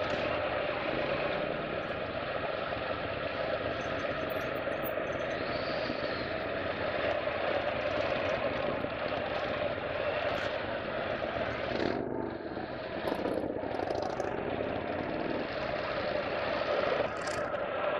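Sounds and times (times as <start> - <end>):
motorcycle engines droning: 0.0 - 17.9.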